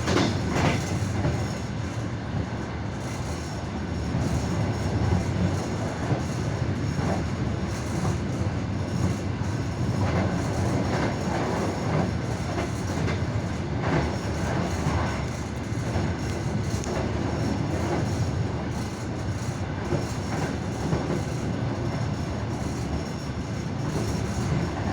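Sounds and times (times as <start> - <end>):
train wheels clattering on rails: 0.0 - 24.9.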